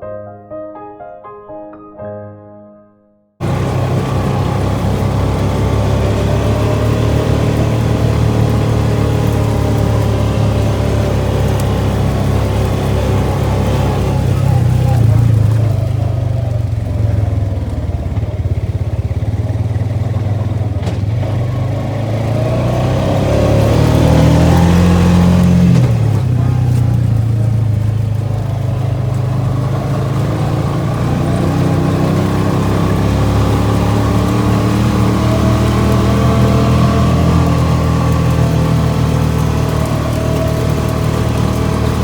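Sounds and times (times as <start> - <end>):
quad bike engine running: 3.4 - 42.0.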